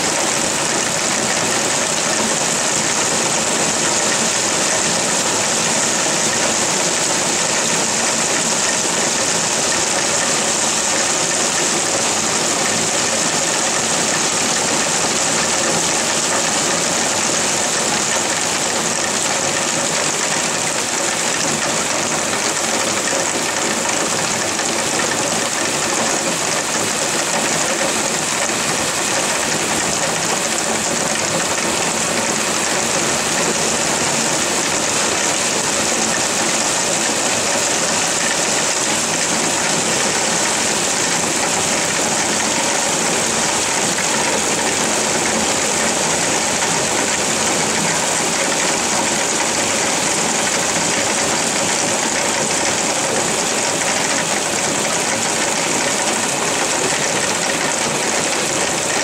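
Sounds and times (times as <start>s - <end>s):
heavy rain downpour: 0.0s - 59.0s.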